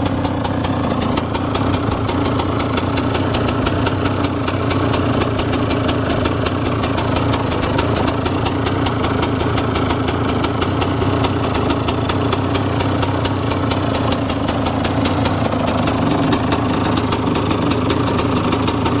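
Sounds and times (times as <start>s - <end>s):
two-stroke engine idling: 0.0s - 19.0s.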